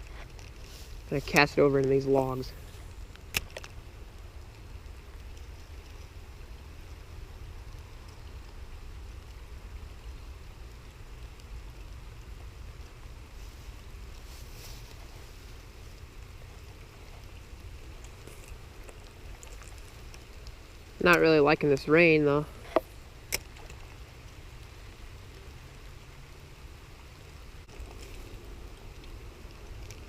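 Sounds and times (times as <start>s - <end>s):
light rain on river: 0.0s - 30.0s.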